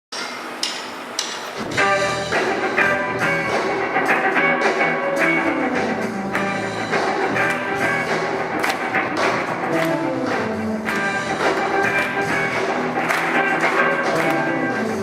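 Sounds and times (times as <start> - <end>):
drum strikes: 0.1 - 15.0
band playing sustained chords: 1.6 - 15.0.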